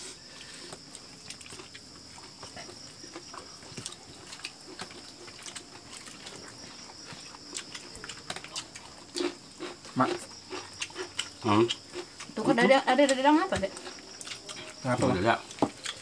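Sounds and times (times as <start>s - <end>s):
people chewing and lip-smacking: 0.0s - 16.0s.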